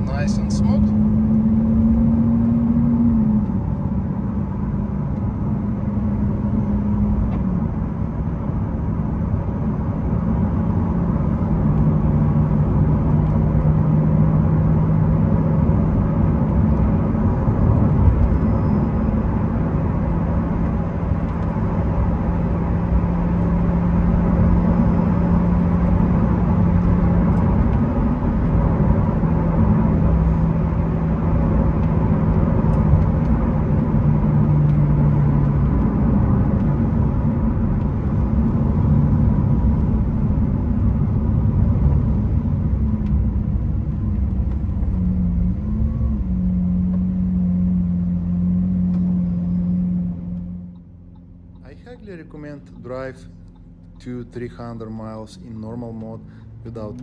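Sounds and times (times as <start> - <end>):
car engine drone from inside cabin: 0.0 - 57.0.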